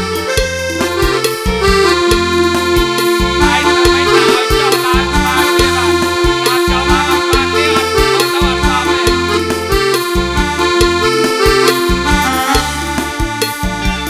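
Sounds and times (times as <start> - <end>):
live band dance music: 0.0 - 14.0
reedy lead melody: 0.0 - 14.0
repeating bass line: 0.0 - 14.0
drum beat: 0.2 - 14.0.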